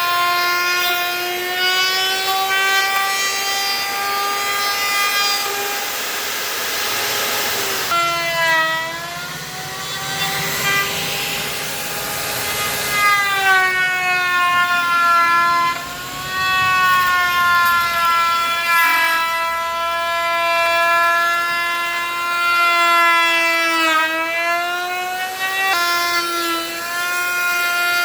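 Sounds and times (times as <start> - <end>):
power tool motor whining: 0.0 - 28.0.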